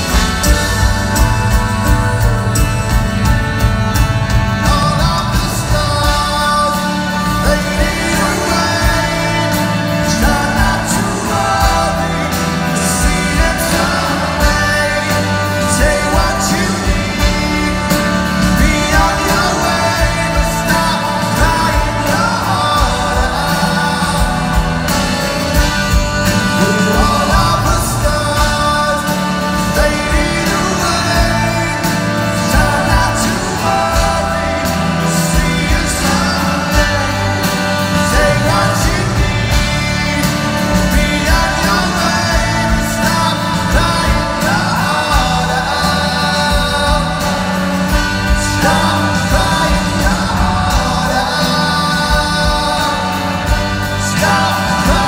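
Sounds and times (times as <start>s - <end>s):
live rock band playing: 0.0s - 55.0s
man singing lead: 0.0s - 55.0s.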